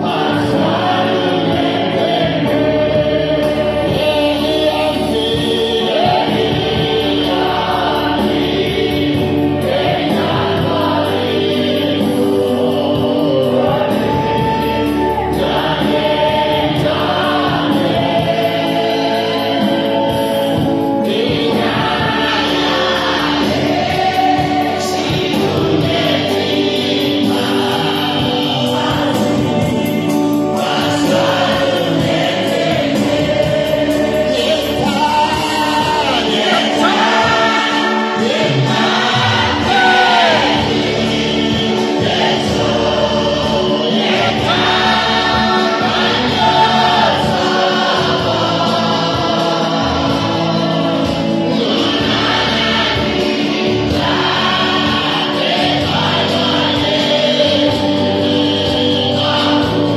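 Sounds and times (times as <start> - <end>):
choir singing gospel song: 0.0 - 59.9
held accompaniment: 0.0 - 59.9.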